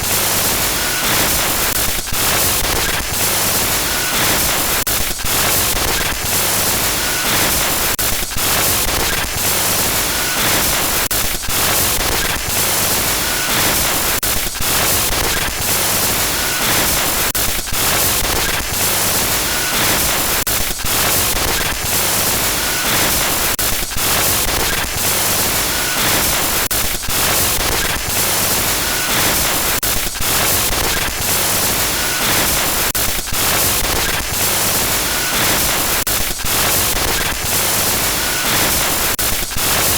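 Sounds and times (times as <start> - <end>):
harsh glitch static hiss: 0.0 - 39.9.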